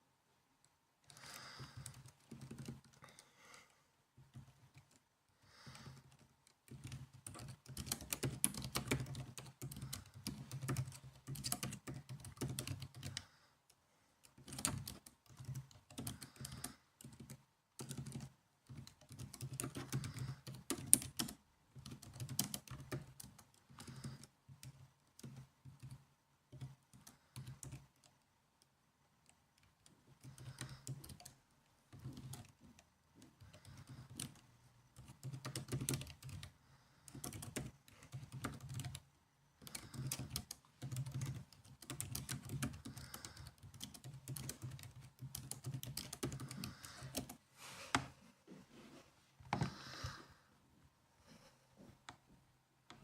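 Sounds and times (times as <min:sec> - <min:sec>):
typing on laptop keyboard: 0:01.0 - 0:03.6, 0:04.2 - 0:13.4, 0:14.2 - 0:47.4.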